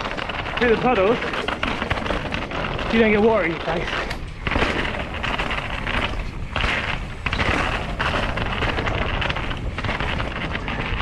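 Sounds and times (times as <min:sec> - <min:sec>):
bike rattling: 0:00.0 - 0:11.0
bike tyres over rock: 0:00.0 - 0:11.0
wind on microphone: 0:00.0 - 0:11.0.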